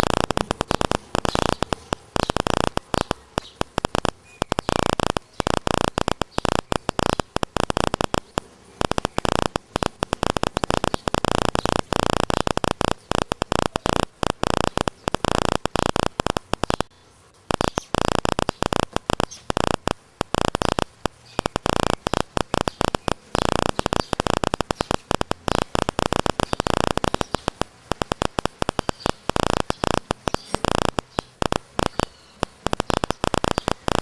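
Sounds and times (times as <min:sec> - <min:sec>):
harsh static hiss: 0:00.0 - 0:34.0.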